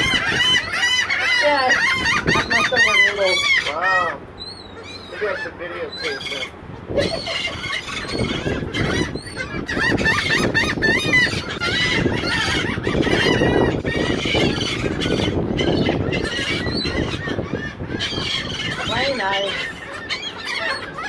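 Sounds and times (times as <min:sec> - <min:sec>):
gulls squawking: 0:00.0 - 0:21.0.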